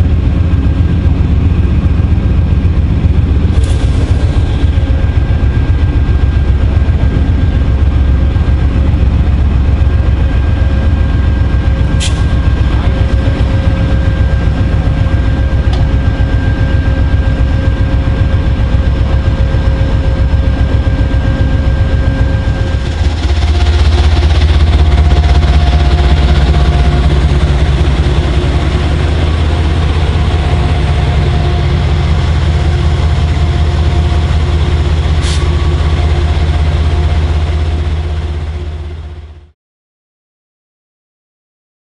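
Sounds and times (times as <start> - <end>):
diesel locomotive idling: 0.0 - 39.6.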